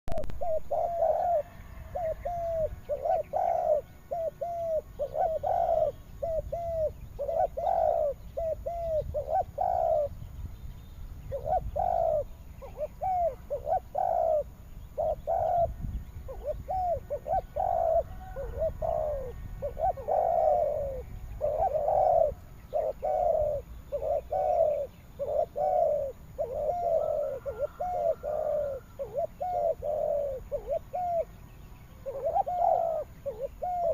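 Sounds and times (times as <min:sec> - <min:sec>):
dove cooing: 0:00.1 - 0:10.2, 0:11.3 - 0:33.9.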